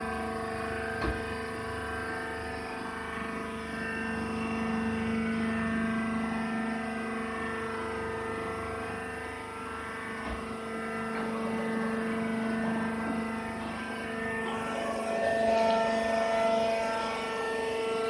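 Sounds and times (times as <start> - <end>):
baler machine humming: 0.0 - 18.0.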